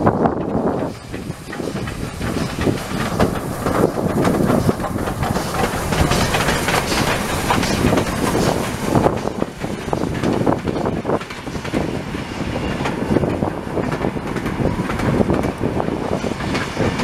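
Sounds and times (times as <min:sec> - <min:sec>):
steam locomotive passing: 0:00.0 - 0:17.0.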